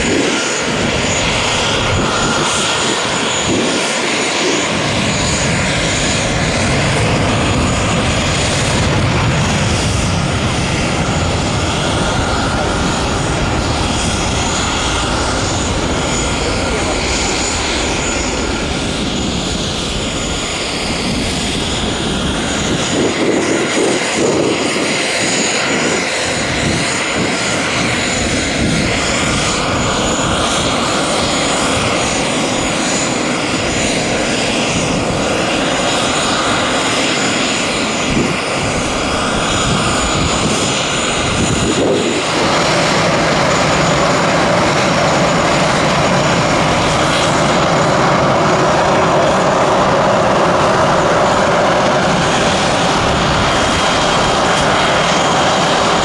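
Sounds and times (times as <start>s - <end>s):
jet engines at takeoff: 0.0s - 56.0s
jet engines starting: 0.0s - 56.0s.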